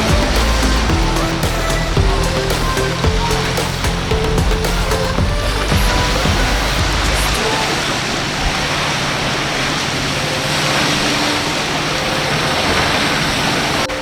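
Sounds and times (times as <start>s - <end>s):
faint boat engine drone: 0.0s - 14.0s
waves breaking: 0.0s - 14.0s.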